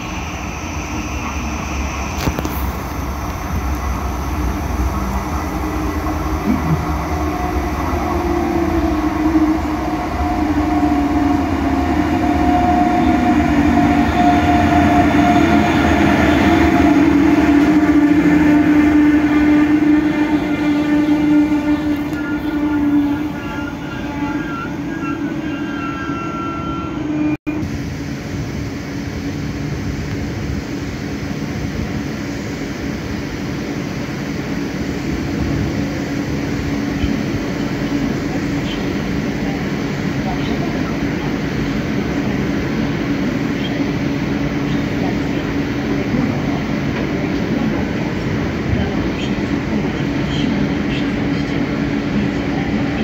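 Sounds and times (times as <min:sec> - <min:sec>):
standing train hum: 0:00.0 - 0:53.0
train rolling in: 0:00.0 - 0:53.0.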